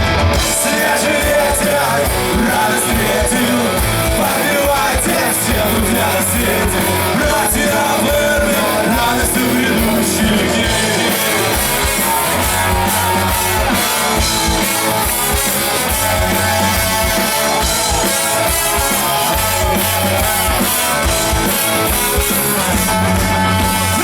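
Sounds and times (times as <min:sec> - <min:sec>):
drum kit beat: 0:00.0 - 0:24.0
guitar: 0:00.0 - 0:24.0
live rock band playing: 0:00.0 - 0:24.0.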